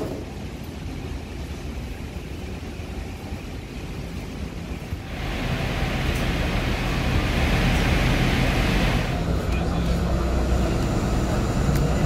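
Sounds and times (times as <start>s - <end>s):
airport apron rumble: 0.0s - 12.0s.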